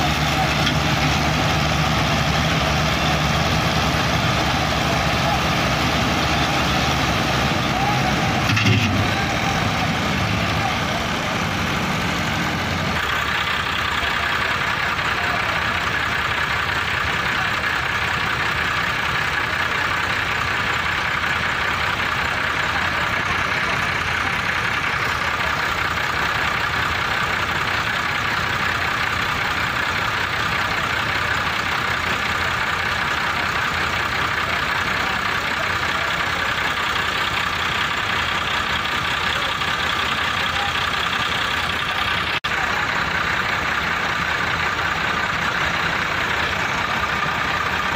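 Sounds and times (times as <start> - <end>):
tractor diesel engines idling: 0.0 - 47.9.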